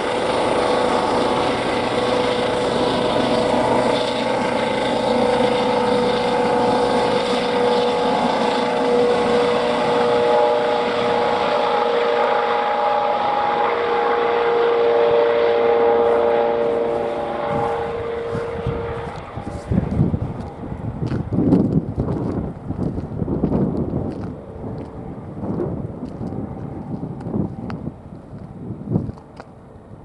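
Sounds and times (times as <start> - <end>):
helicopter rotor noise: 0.0 - 28.6
helicopter turbine whine: 0.0 - 30.0.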